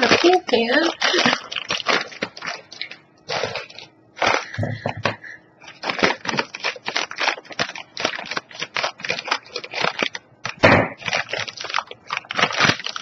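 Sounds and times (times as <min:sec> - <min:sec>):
plastic snack bag crackling: 0:00.0 - 0:13.0.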